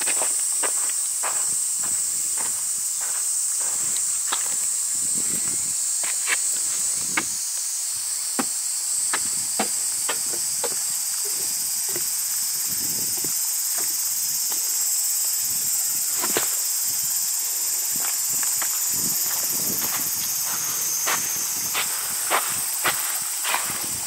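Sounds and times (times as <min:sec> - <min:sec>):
footsteps crunching on dirt trail: 0:00.0 - 0:07.4, 0:08.4 - 0:14.5, 0:17.2 - 0:24.0
insects chorus: 0:00.0 - 0:24.0.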